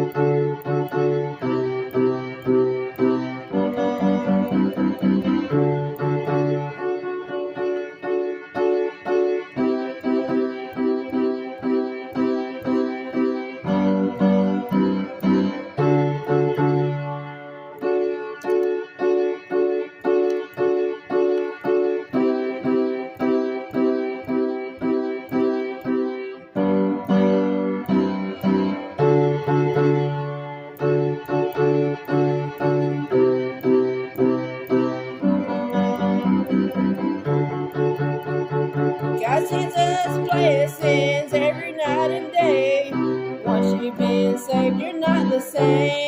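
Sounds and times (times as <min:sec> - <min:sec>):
piano chords: 0:00.0 - 0:46.0.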